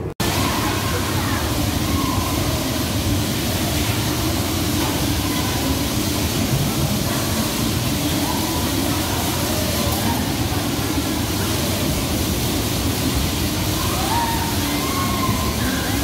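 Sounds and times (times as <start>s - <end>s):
bumper cars rumbling: 0.0s - 16.0s.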